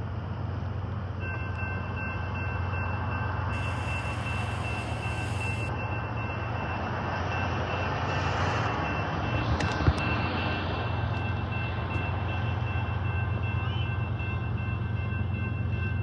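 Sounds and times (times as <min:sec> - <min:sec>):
diesel train rumble: 0:00.0 - 0:16.0
railroad crossing bell ringing: 0:00.0 - 0:16.0
road traffic: 0:00.0 - 0:16.0.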